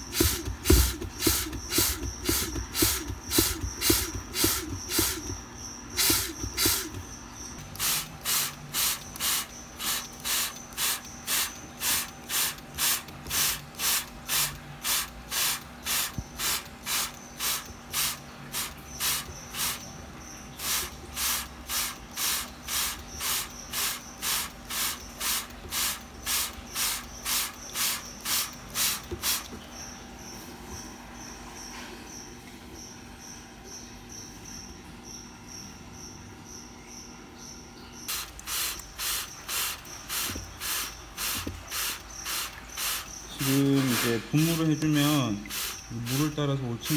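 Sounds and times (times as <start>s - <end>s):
spray bottle squirting water: 0.0s - 19.9s, 20.5s - 29.7s, 38.1s - 46.9s.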